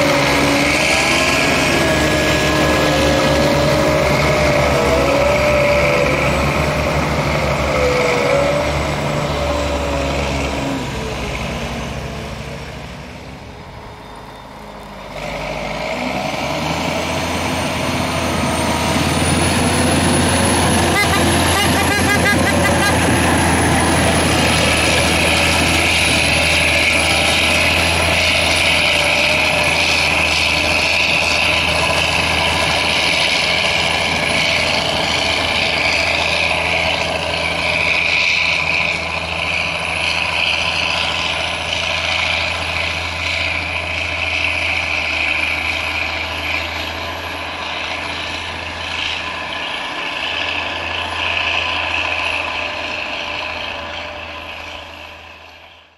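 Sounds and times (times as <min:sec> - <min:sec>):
diesel engines running: 0:00.0 - 0:55.9.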